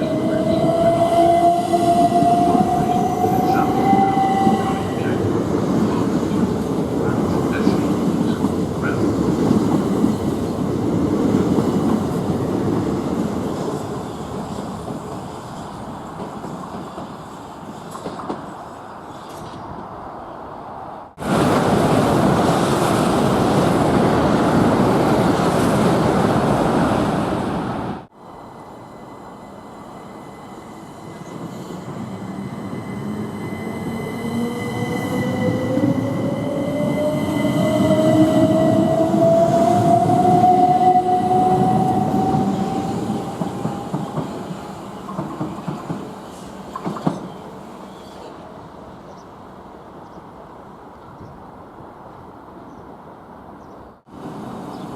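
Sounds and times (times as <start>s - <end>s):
loud rush of train noise: 0.0s - 54.9s.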